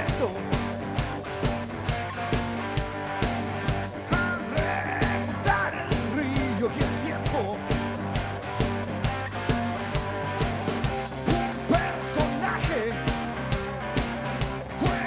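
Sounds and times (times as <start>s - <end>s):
drum beat: 0.0s - 15.0s
electric guitars: 0.0s - 15.0s.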